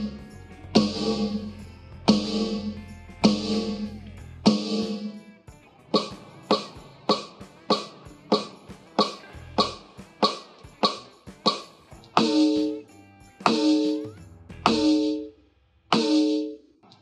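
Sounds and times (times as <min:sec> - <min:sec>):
electronic snare drum hits: 0:00.8 - 0:05.2, 0:06.0 - 0:12.8, 0:13.4 - 0:15.3, 0:15.9 - 0:16.5.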